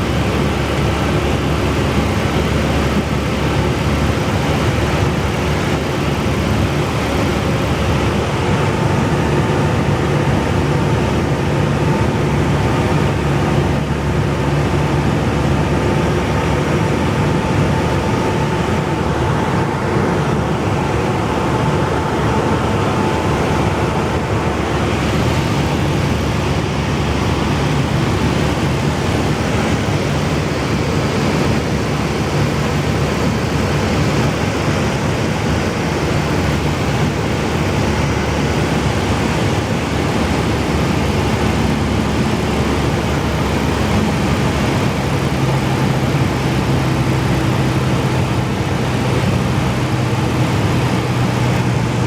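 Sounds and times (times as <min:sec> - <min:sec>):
heavy rushing noise: 0:00.0 - 0:52.0
propeller plane engine droning: 0:00.0 - 0:52.0.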